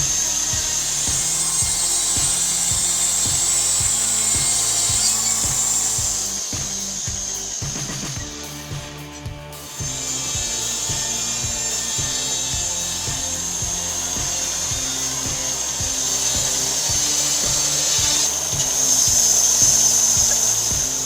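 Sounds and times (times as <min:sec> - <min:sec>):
background music with beat: 0:00.0 - 0:21.0
power saw cutting wood: 0:00.0 - 0:21.0.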